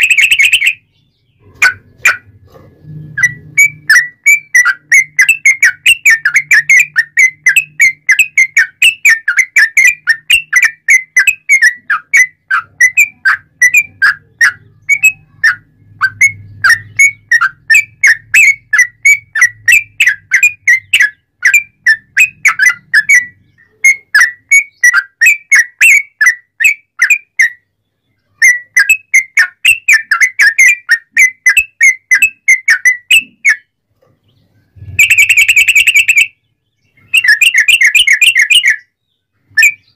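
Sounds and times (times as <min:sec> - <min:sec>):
bird singing sharp whistled notes: 0:00.0 - 0:33.7, 0:34.8 - 0:39.9.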